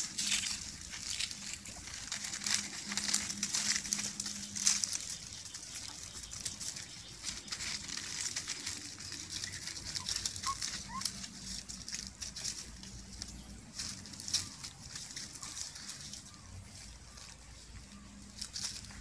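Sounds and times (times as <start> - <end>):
puppies suckling and scrambling: 0.0 - 19.0.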